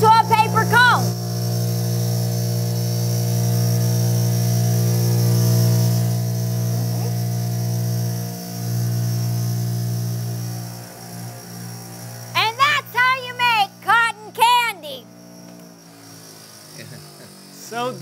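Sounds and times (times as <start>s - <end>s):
cotton candy machine motor hum: 0.0s - 18.0s.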